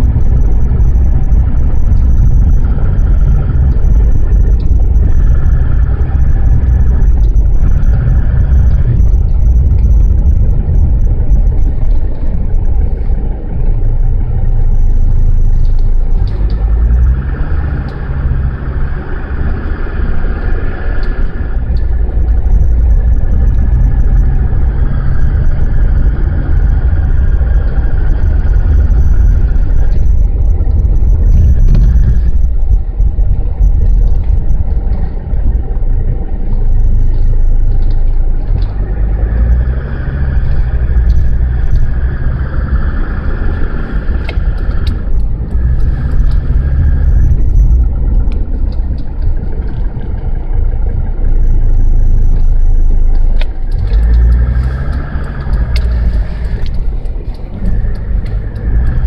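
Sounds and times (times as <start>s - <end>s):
diesel car engine rumbling: 0.0s - 59.0s.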